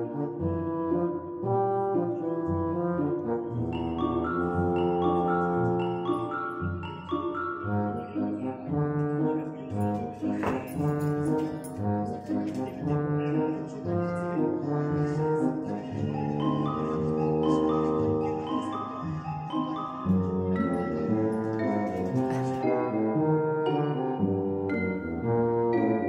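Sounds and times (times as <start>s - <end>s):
background music with held notes: 0.0s - 26.0s.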